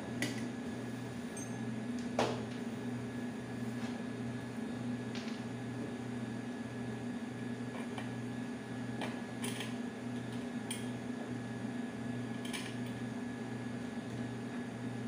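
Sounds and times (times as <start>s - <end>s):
electrical hum of appliance: 0.0s - 15.0s.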